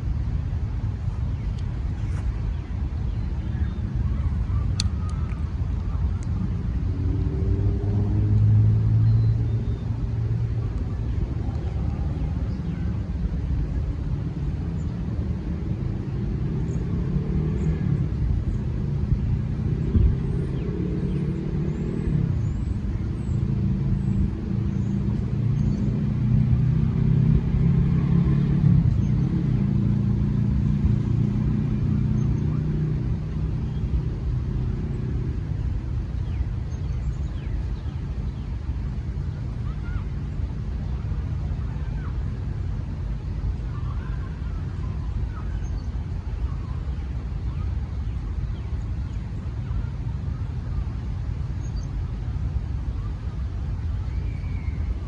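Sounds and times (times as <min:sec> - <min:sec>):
vehicle engine hum: 0:00.0 - 0:55.0.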